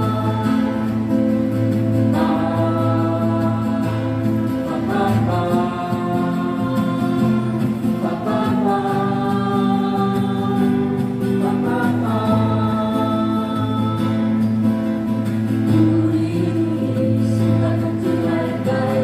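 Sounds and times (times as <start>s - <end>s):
acoustic guitar: 0.0s - 19.0s
group singing long held notes: 0.0s - 19.0s.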